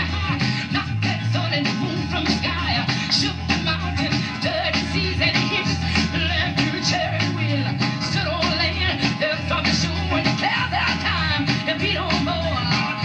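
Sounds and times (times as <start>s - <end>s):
live band: 0.0s - 13.0s.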